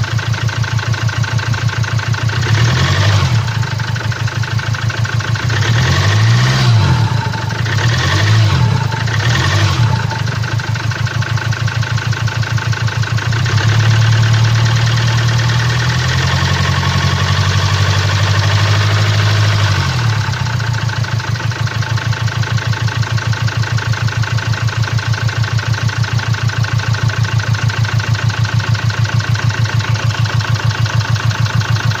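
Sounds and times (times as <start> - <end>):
diesel engine idling with knocking: 0.0 - 32.0.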